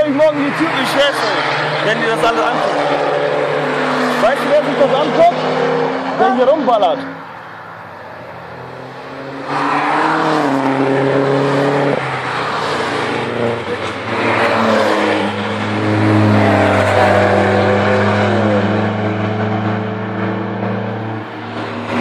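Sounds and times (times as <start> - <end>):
race cars driving past: 0.0 - 22.0.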